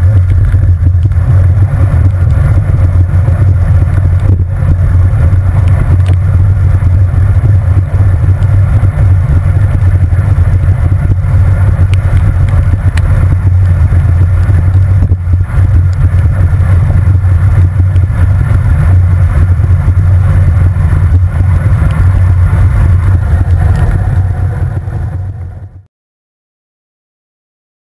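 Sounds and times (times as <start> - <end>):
wind rush: 0.0 - 25.8
tyre noise on wet road: 0.0 - 25.9.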